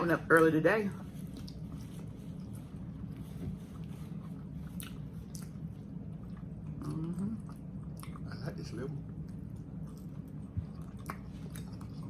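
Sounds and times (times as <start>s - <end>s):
people chewing food: 0.0s - 12.0s
steady low hum: 0.0s - 12.0s.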